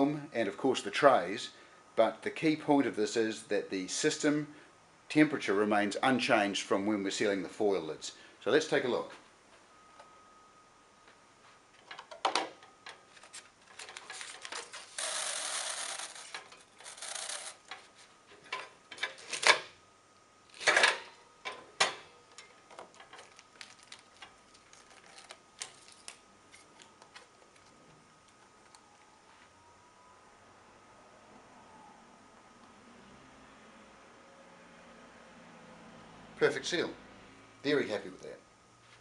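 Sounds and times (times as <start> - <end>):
faint steady whine: 0.0 - 39.0.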